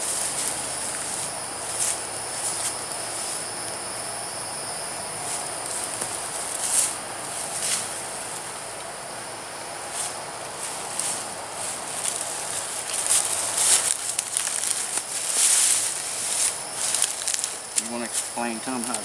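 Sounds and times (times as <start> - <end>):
hammock fabric rustling: 0.0 - 4.2, 4.9 - 8.9, 9.5 - 19.0
insects droning: 0.0 - 19.0.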